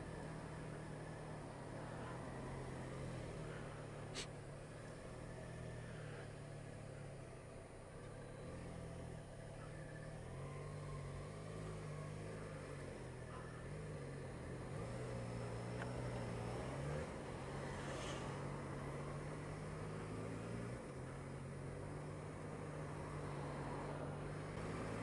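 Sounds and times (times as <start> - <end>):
motorcycle engine at low revs: 0.0 - 25.0
road and traffic noise: 0.0 - 25.0.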